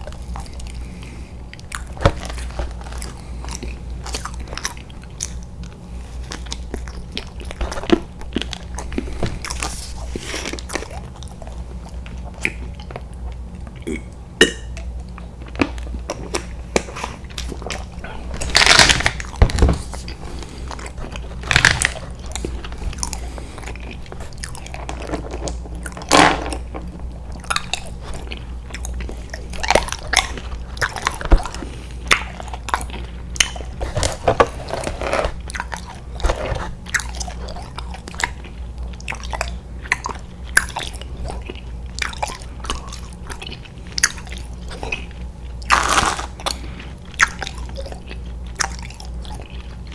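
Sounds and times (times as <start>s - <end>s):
person chewing sweets: 0.0s - 49.9s.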